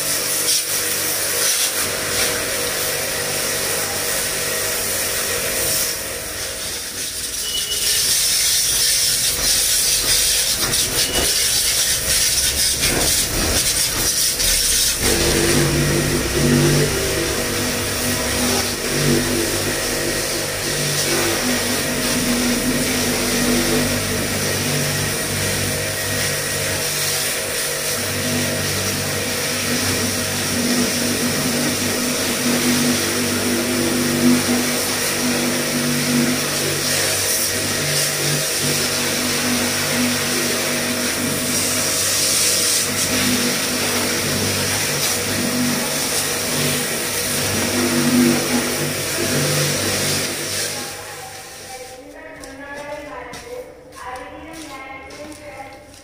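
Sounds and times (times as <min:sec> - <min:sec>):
water jet hissing on tyre: 0:00.0 - 0:52.1
pressure washer motor humming: 0:00.0 - 0:53.0.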